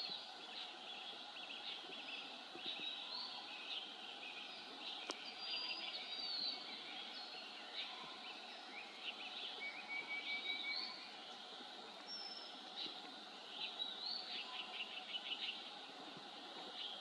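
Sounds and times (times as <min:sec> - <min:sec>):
small birds chirping and twittering: 0:00.0 - 0:17.0
steady outdoor hiss: 0:00.0 - 0:17.0.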